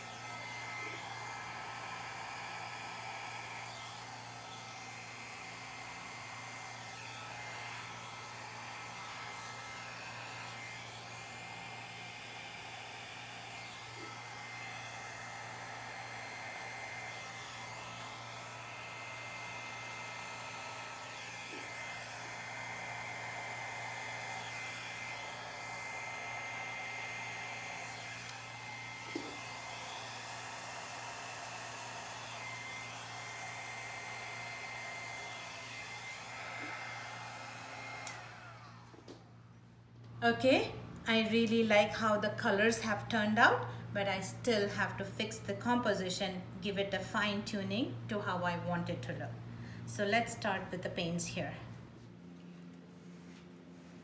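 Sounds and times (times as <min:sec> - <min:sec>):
hair dryer blowing: 0:00.0 - 0:39.6, 0:49.4 - 0:54.0.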